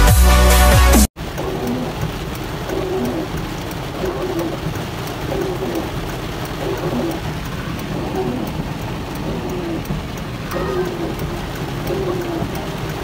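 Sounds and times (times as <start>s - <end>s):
heavy rain on car windshield: 1.2s - 13.0s
low road rumble: 1.2s - 13.0s.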